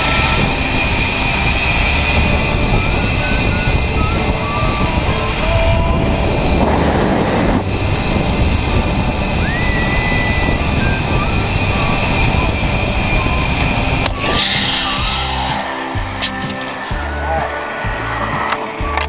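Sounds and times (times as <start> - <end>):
wind buffeting microphone: 0.0 - 18.9
zip line trolley whine: 0.0 - 19.0.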